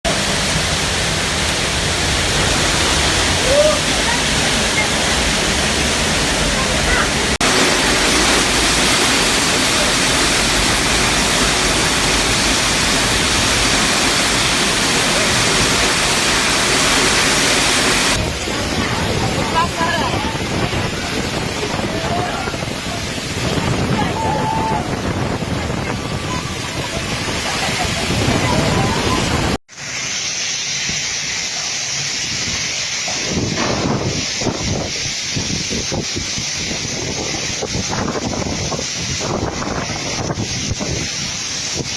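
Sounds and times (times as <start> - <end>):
heavy downpour hissing: 0.1 - 41.9
heavy rain and hail: 0.1 - 41.9
wind buffeting microphone: 0.5 - 29.6, 32.1 - 41.9.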